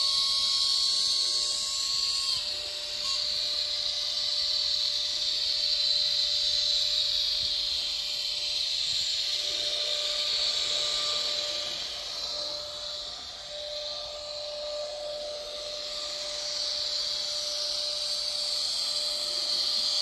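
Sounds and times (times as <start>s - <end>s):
model train whirring on rails: 0.0s - 20.0s
thin steady whine: 0.0s - 20.0s.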